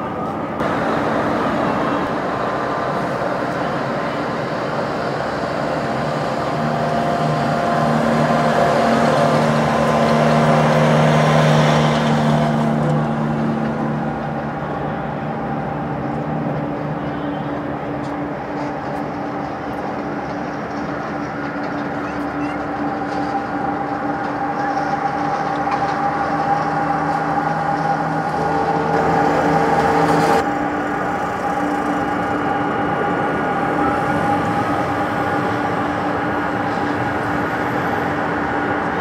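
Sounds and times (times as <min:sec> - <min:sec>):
jet engines idling: 0:00.0 - 0:39.0.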